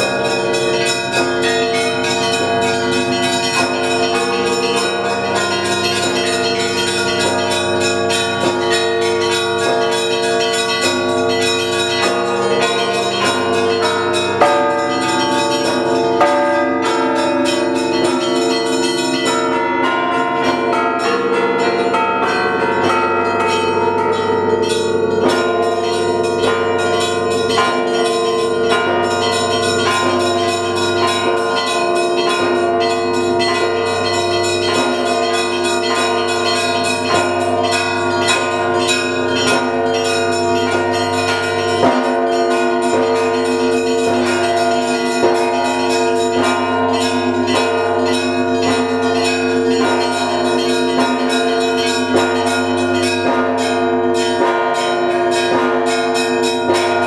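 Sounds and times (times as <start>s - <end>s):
large bells humming: 0.0s - 57.0s
small bells struck quickly: 0.0s - 57.0s.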